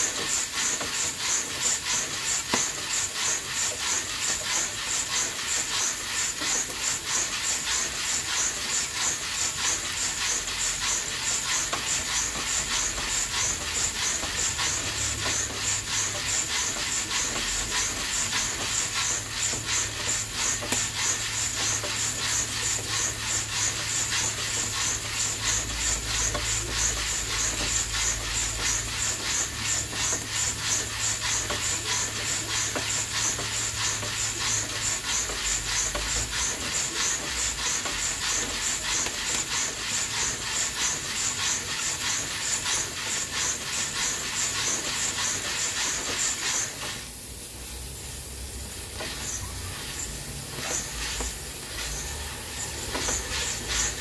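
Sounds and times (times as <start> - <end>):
coffee beans roasting sizzle: 0.0 - 54.0.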